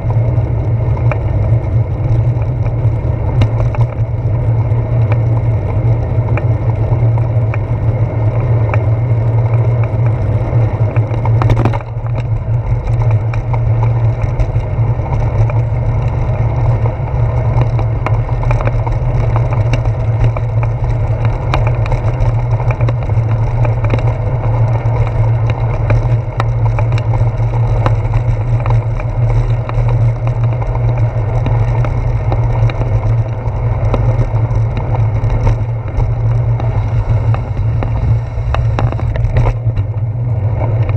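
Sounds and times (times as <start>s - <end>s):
bicycle tyres rumbling on road: 0.0s - 40.9s
handlebars rattling: 0.0s - 40.9s.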